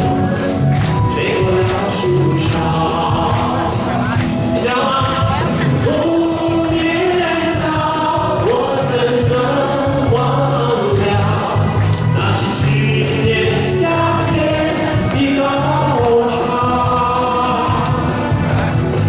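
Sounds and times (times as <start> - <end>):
bass: 0.0 - 19.0
drum beat: 0.0 - 19.0
live band playing: 0.0 - 19.0
person singing: 0.0 - 19.0.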